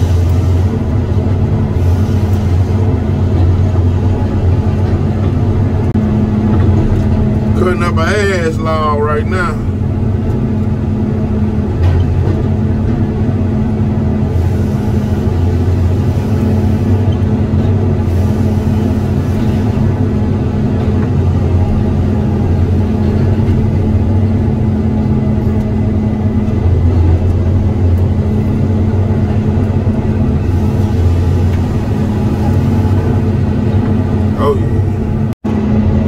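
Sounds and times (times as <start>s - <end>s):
diesel engine running under load: 0.0s - 36.0s.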